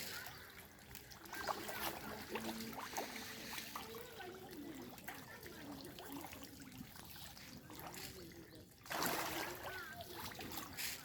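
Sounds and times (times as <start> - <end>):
pond water trickling: 0.0 - 11.0
small splashes on water: 0.0 - 11.0.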